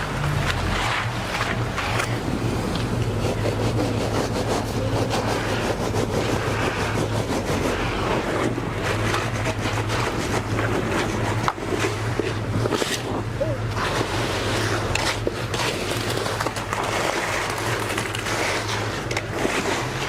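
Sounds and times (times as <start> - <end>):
heavy engine running: 0.0 - 20.0
scraping and knocking: 0.0 - 20.0.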